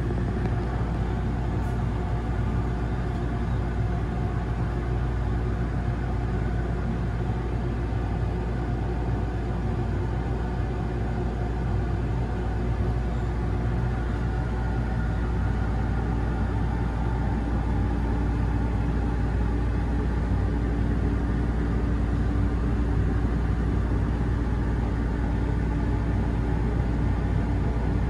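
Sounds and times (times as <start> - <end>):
low hum and rumble: 0.0 - 28.0.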